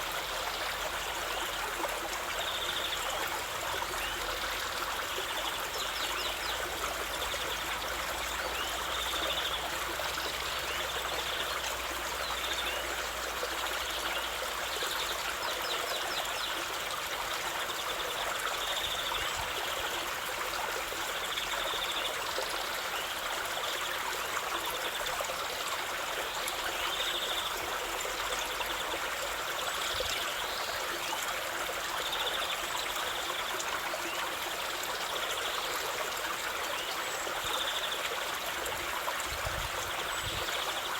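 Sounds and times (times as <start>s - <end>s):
stream of water flowing: 0.0s - 40.9s.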